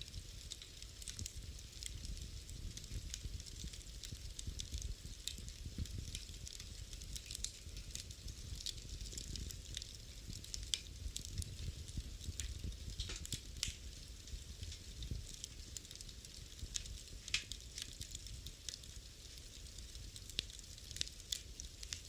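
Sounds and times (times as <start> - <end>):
fire crackles and pops: 0.0 - 22.0
fire low rumble: 0.0 - 22.0.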